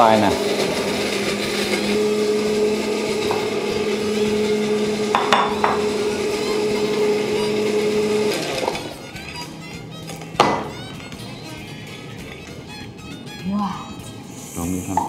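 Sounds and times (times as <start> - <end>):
appliance motor humming: 0.0 - 14.8.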